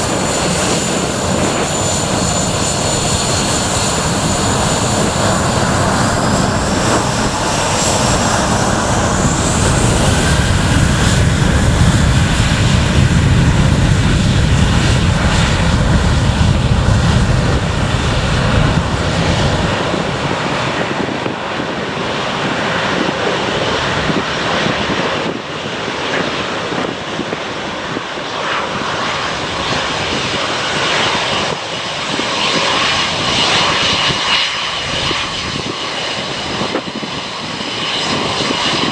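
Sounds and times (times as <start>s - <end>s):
airliner engines rumbling: 0.0s - 38.9s
jet engine whine: 0.0s - 38.9s.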